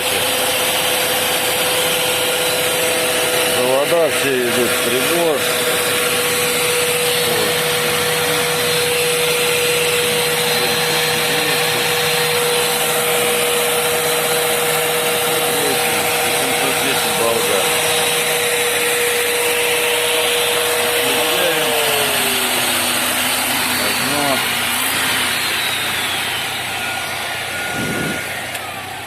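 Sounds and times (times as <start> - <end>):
hair dryer blowing: 0.0 - 29.0
hair dryer motor whine: 0.0 - 29.0.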